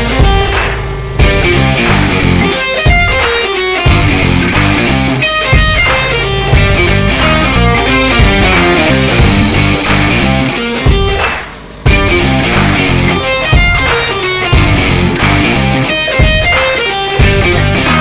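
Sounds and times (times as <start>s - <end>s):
guitar music with bass line: 0.0s - 18.0s.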